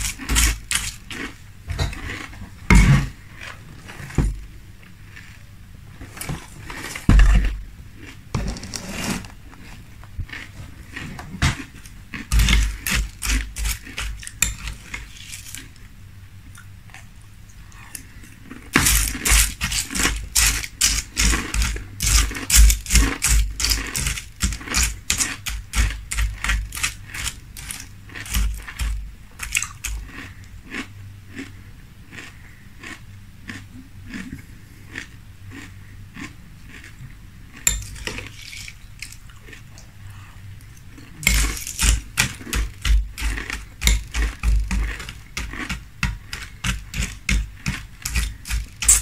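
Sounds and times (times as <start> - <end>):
chewing crunchy cereal: 0.0 - 4.2, 4.8 - 15.9, 16.5 - 49.0.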